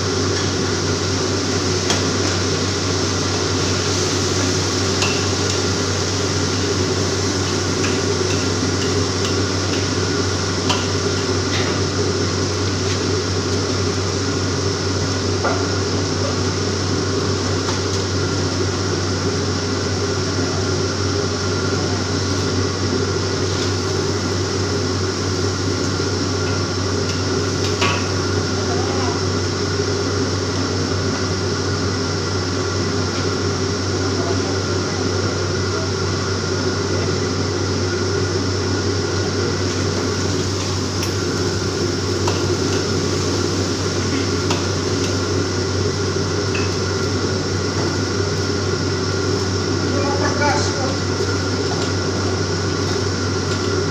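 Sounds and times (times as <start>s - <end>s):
gas burner roaring: 0.0s - 53.9s.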